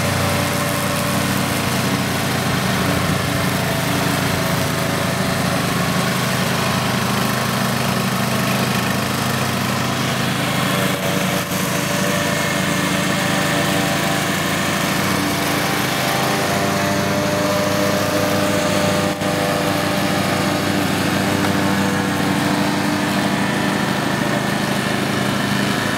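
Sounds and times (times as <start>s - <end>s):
ride-on lawn mower engine: 0.0s - 25.9s.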